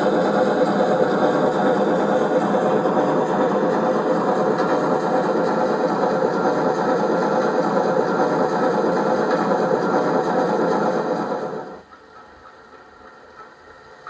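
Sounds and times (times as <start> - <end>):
model steam locomotive hiss from speaker: 0.0 - 14.0.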